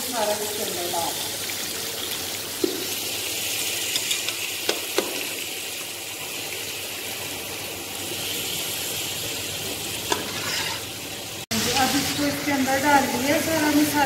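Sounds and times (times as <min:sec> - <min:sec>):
hiss of food cooking: 0:00.0 - 0:14.0.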